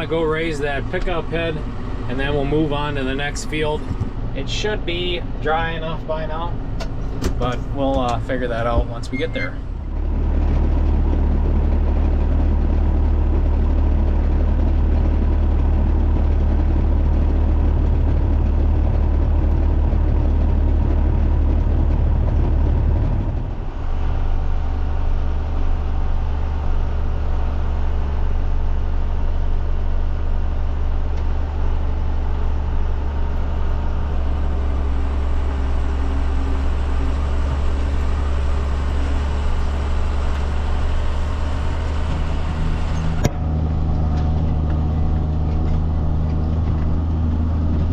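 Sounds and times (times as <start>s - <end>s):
tractor diesel engine droning: 0.0s - 47.9s.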